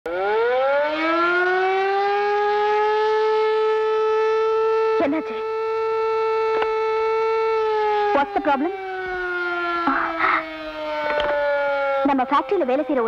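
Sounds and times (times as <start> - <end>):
factory siren wailing: 0.1 - 13.0.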